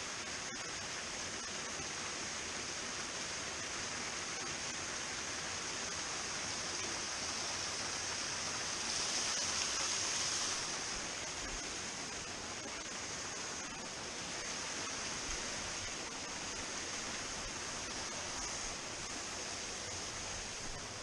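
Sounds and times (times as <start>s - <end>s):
stream rushing over rocks: 0.4s - 21.0s.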